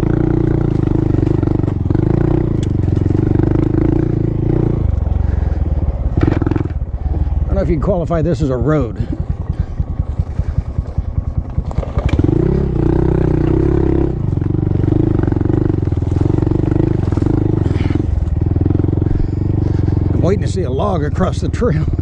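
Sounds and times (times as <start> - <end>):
motorcycle engine chugging and revving: 0.0 - 22.0.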